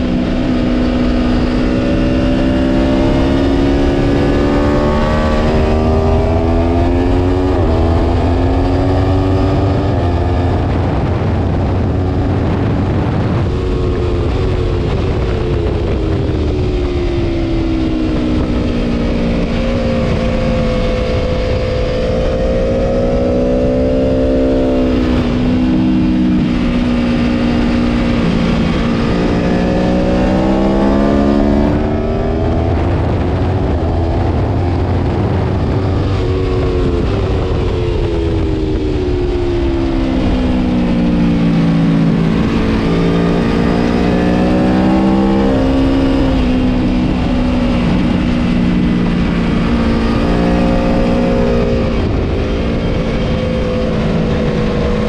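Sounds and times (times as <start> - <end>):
motorcycle engine revving: 0.0 - 55.0
wind rush: 0.0 - 55.0.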